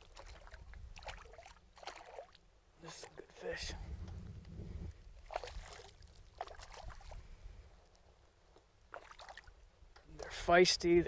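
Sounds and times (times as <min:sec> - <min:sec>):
faint water splashes: 0:00.0 - 0:04.3, 0:04.9 - 0:10.6.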